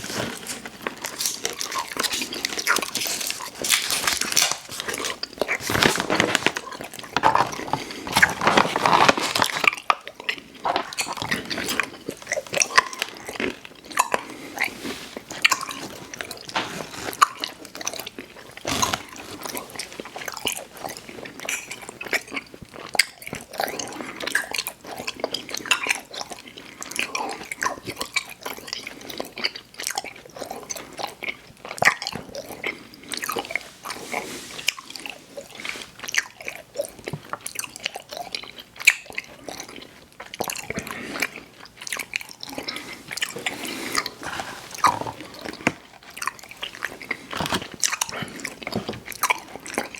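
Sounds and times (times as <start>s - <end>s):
crunchy sticky chewing: 0.0s - 49.9s.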